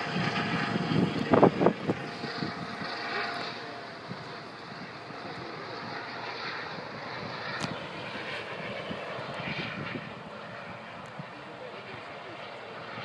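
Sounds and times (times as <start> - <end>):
distant helicopter hum: 0.0 - 13.0.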